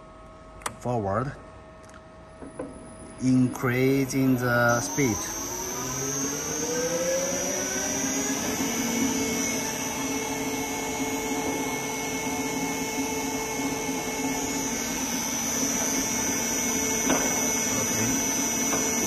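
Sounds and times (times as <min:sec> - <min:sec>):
mixer motor whining: 0:02.8 - 0:19.0.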